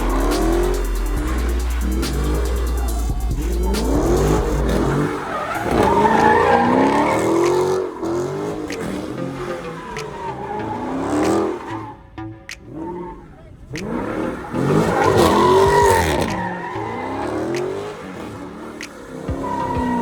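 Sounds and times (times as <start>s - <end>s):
car engine revving: 0.0s - 20.0s
car tires squealing: 0.0s - 20.0s.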